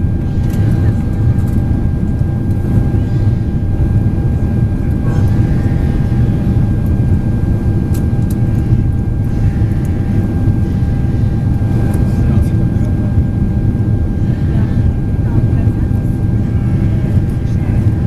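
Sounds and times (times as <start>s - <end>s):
low rumble of aircraft engines: 0.0s - 18.0s
steady whine: 0.0s - 18.0s.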